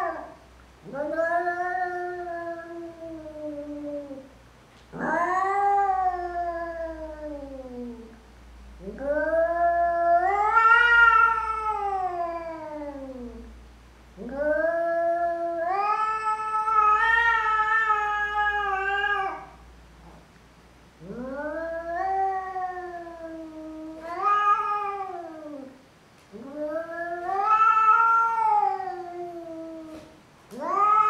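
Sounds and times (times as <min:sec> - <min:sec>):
cat yowling: 0:00.9 - 0:04.2, 0:05.0 - 0:08.0, 0:08.8 - 0:13.5, 0:14.2 - 0:19.6, 0:21.0 - 0:25.8, 0:26.4 - 0:31.0.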